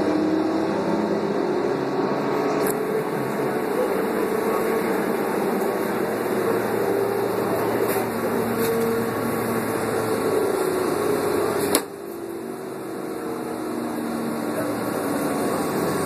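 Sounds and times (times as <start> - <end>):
bus engine running: 0.0 - 16.0
road noise: 0.0 - 16.0.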